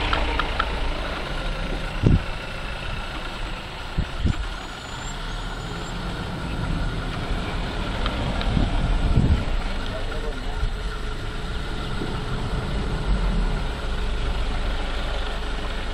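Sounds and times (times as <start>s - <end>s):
vehicle engine idling: 0.0s - 15.9s.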